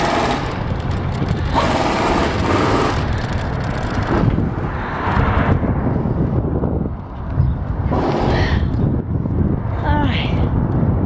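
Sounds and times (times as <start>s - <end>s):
road traffic passing: 0.0s - 11.0s
wind buffeting microphone: 0.0s - 11.0s.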